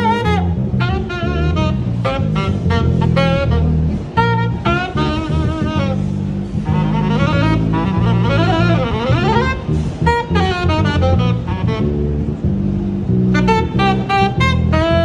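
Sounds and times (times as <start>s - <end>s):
electric bass line: 0.0s - 15.0s
saxophone melodic runs: 0.0s - 15.0s.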